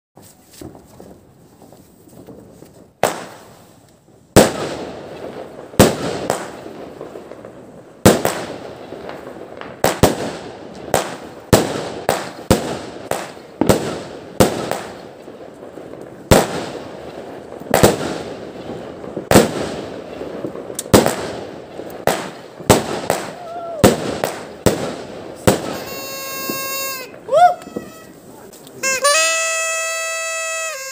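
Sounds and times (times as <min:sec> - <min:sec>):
fireworks bangs: 0:00.4 - 0:30.9.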